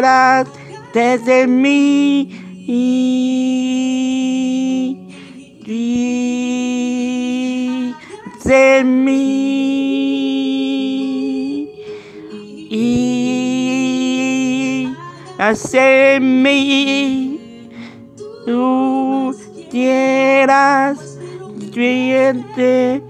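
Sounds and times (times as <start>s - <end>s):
man singing long held notes: 0.0s - 23.0s.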